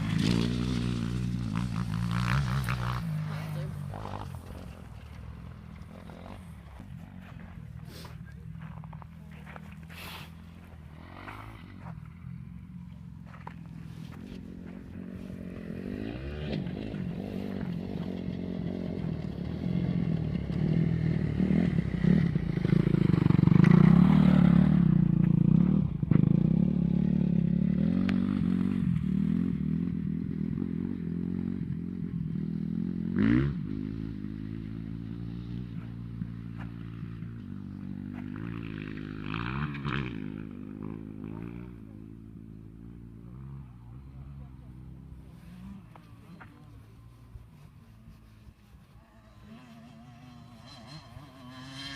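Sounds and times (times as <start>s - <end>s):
motocross bike engines revving: 0.0s - 51.9s.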